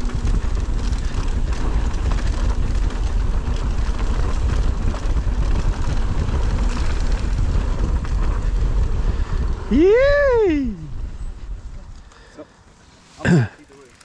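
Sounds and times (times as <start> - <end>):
wind rushing over microphone: 0.0 - 12.1
bike rattles: 0.0 - 14.0
knobby tyres rolling on dirt: 0.0 - 14.0.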